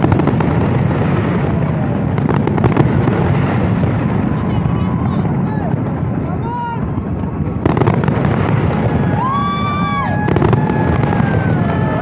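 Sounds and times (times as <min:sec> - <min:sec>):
fireworks booms and crackling: 0:00.0 - 0:12.0.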